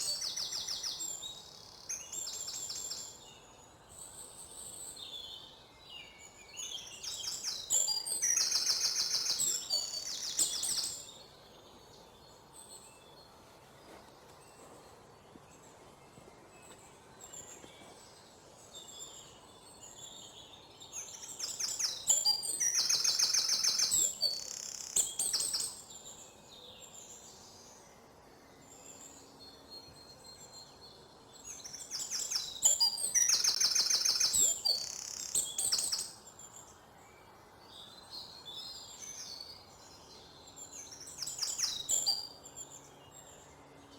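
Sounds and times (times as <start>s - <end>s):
songbirds twittering: 0.0s - 43.9s.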